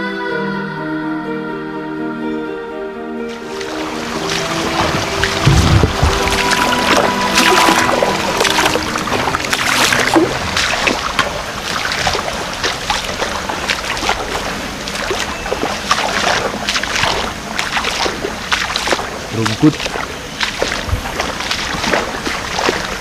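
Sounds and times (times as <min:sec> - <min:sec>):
footsteps splashing in water and mud: 0:03.3 - 0:23.0.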